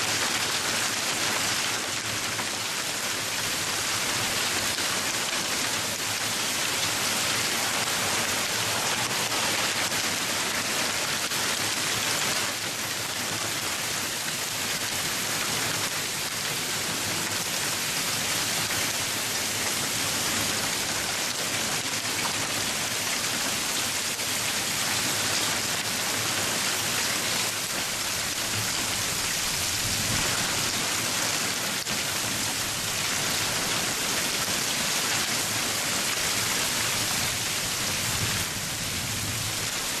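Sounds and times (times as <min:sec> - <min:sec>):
hail pelting the ground: 0:00.0 - 0:40.0.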